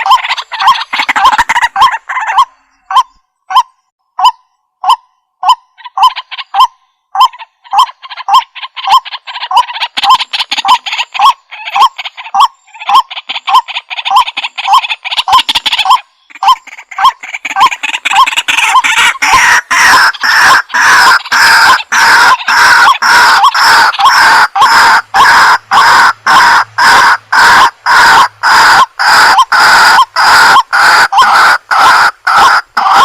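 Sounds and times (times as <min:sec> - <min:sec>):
waterhen calling: 0:00.0 - 0:33.0.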